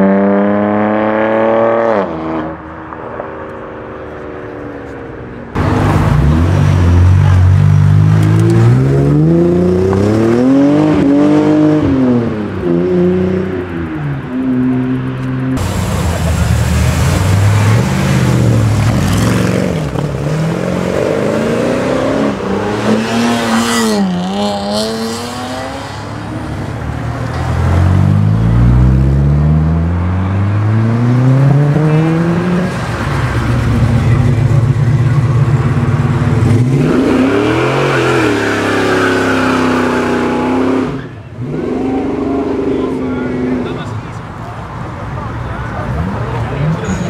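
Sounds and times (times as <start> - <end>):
car engines revving and accelerating: 0.0 - 47.0.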